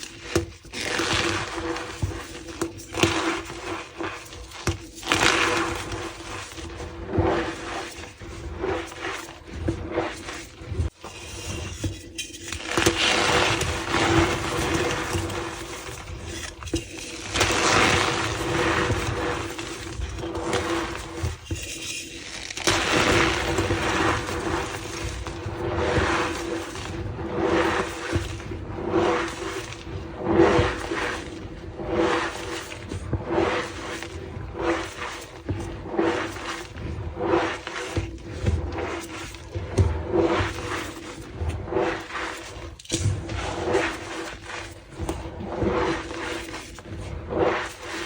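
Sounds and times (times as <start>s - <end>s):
chalk crunching and squeaking: 7.4s - 48.0s.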